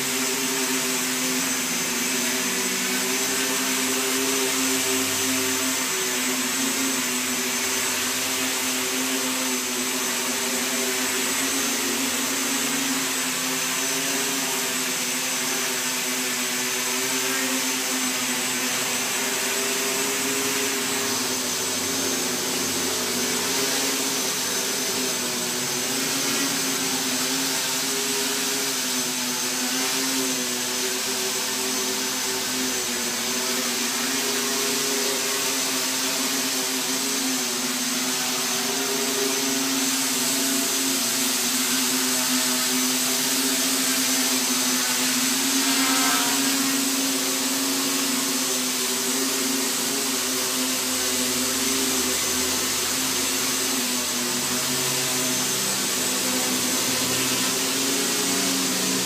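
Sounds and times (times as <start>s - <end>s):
quadcopter buzzing hum: 0.0s - 59.0s.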